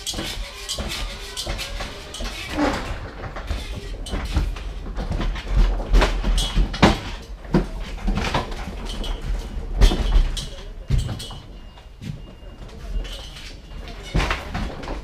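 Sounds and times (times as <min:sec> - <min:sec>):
knocks and clunks: 0:00.0 - 0:15.0
pallet jack wheels rumbling: 0:00.0 - 0:15.0.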